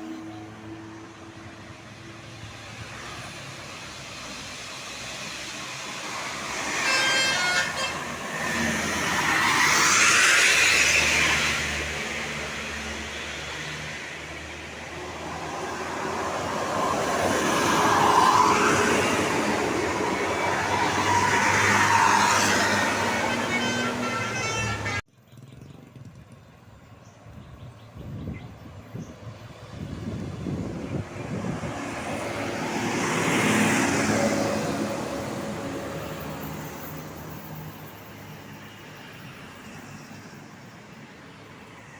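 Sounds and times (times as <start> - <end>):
vehicles passing close by: 0.0 - 41.9.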